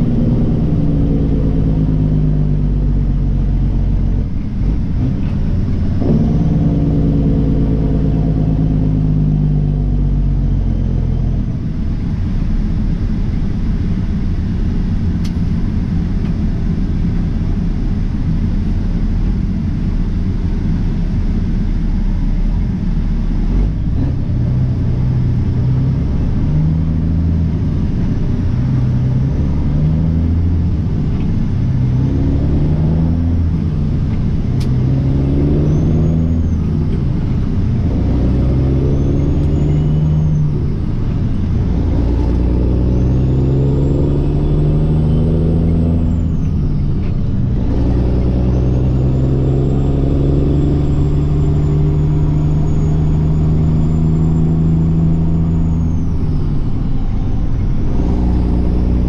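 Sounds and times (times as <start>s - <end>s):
diesel truck engine shifting gears: 0.0s - 59.0s.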